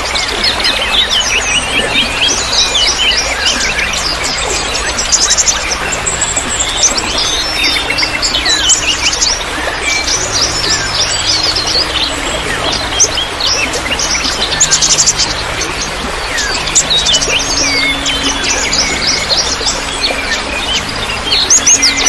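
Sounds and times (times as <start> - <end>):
songbirds chirping and trilling: 0.0 - 22.0
trickling water: 0.0 - 22.0.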